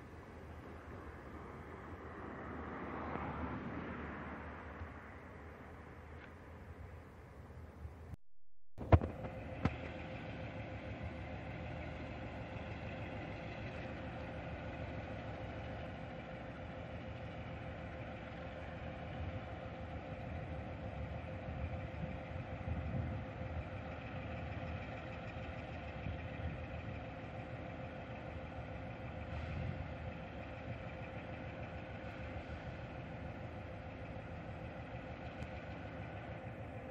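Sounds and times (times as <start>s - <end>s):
diesel locomotive idling: 0.0s - 8.2s, 8.8s - 36.9s.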